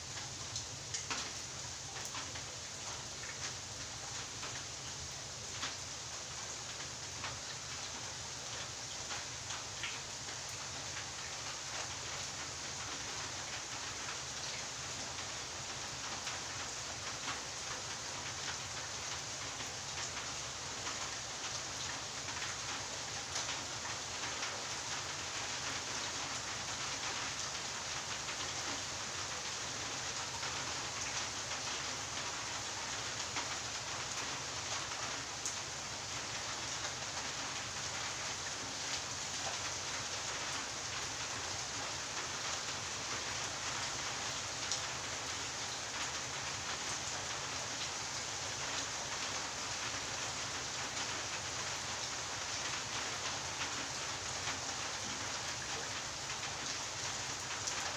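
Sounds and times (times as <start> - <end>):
rain on tiled floor: 0.0 - 57.9.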